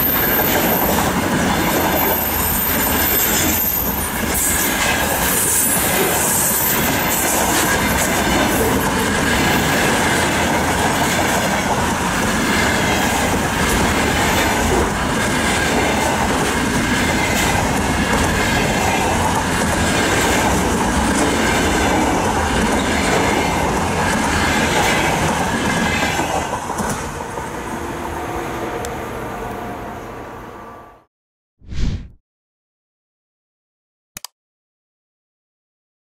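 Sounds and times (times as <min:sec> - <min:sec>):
freight train wheels on track: 0:00.0 - 0:29.5.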